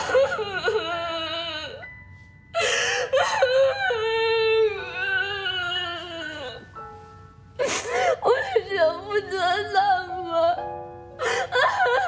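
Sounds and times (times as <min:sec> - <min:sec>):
woman crying: 0:00.0 - 0:01.9, 0:02.6 - 0:06.7, 0:07.6 - 0:10.6, 0:11.2 - 0:12.0
soft background music: 0:00.0 - 0:12.0.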